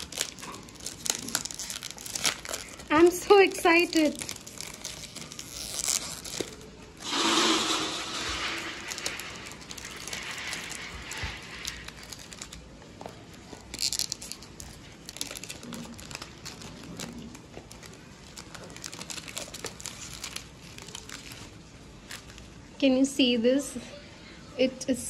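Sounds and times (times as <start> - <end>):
plastic shrink-wrap crinkling: 0.0 - 22.8.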